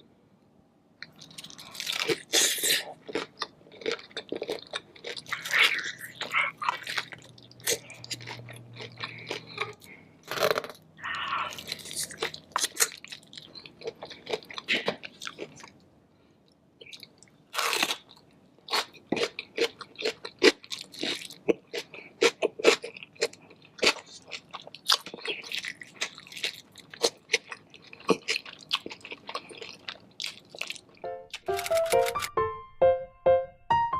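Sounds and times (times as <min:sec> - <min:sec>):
person chewing crunchy food: 0:01.0 - 0:15.8, 0:16.8 - 0:32.0.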